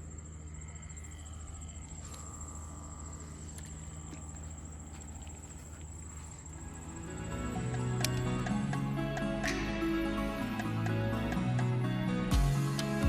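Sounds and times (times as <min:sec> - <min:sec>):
insects trilling: 0:00.0 - 0:11.4.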